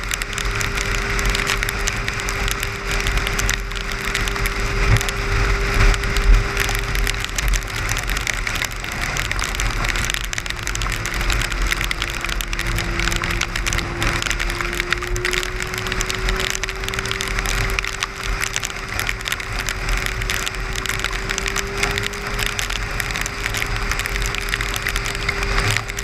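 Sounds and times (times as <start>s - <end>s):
rain spattering on car: 0.0s - 26.0s.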